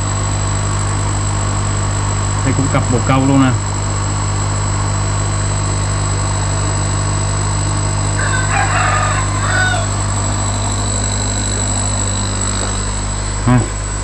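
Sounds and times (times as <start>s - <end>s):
air pump motors humming: 0.0s - 14.0s
thin high whine: 0.0s - 14.0s.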